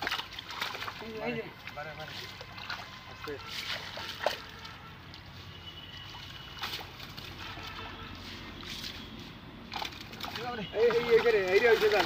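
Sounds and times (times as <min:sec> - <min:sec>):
faint water splashes: 0:00.0 - 0:12.0
water sloshing and trickling: 0:00.0 - 0:12.0.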